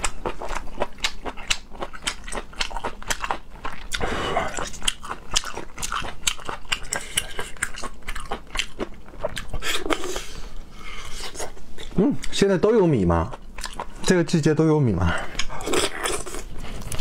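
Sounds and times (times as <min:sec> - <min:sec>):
person chewing: 0:00.0 - 0:12.4, 0:13.2 - 0:14.2, 0:15.1 - 0:17.0.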